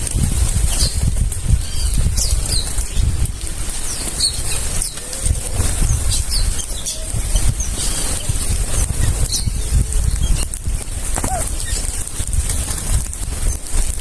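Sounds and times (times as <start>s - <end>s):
birds flapping wings: 0.0s - 14.0s.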